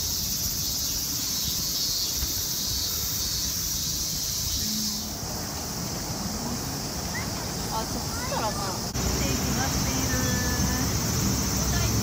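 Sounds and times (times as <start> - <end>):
cicadas shrilling chorus: 0.0 - 12.0.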